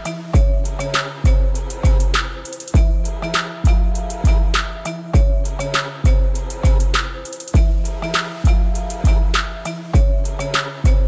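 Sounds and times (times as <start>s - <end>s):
instrumental music with heavy beat: 0.0s - 11.0s.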